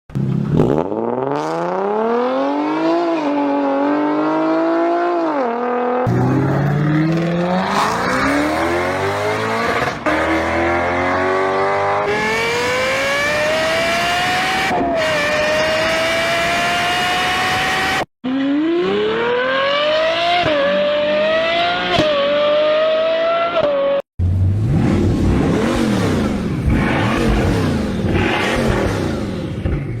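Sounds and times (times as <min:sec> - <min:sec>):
car engines accelerating hard: 0:00.2 - 0:30.0.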